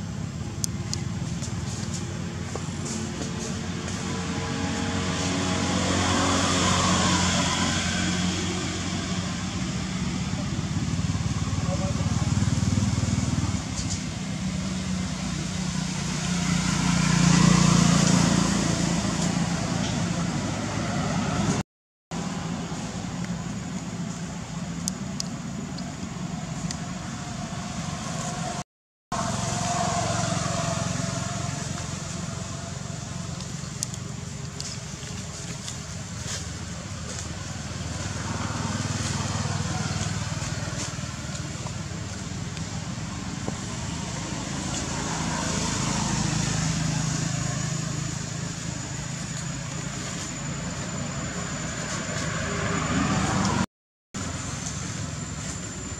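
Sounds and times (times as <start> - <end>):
motor vehicle running: 0.0 - 55.9
road noise: 0.0 - 55.9
traffic rumble: 0.0 - 55.9.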